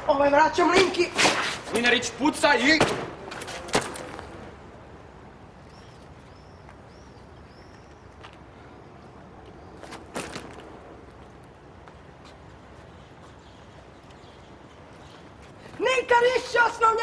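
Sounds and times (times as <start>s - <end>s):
quiet street ambience: 0.0s - 17.0s.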